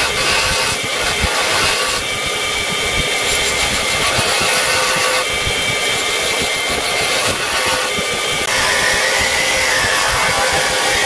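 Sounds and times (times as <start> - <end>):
belt grinder grinding steel: 0.0 - 11.0.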